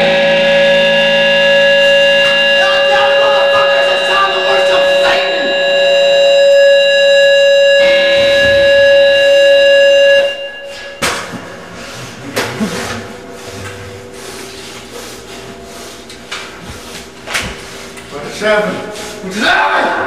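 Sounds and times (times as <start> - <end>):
amplifier feedback drone: 0.0 - 20.0.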